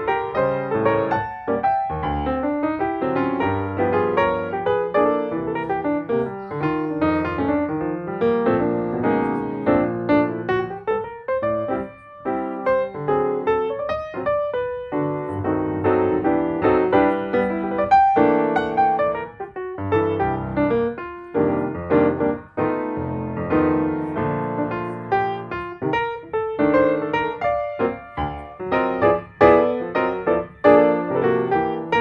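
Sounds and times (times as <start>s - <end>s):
piano melody of quick notes: 0.0s - 32.0s.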